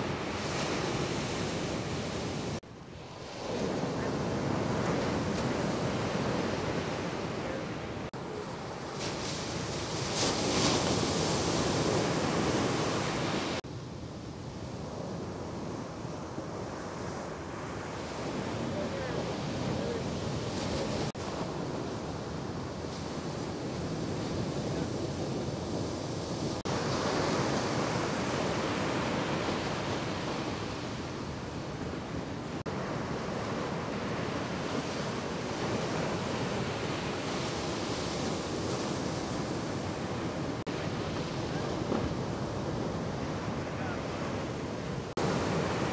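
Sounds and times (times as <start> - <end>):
surf breaking on a beach: 0.0 - 45.9.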